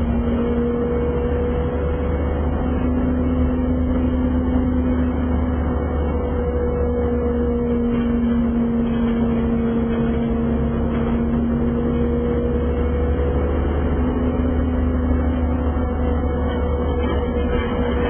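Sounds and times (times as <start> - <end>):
bus engine drone with whine: 0.0 - 18.0
low road rumble: 0.0 - 18.0.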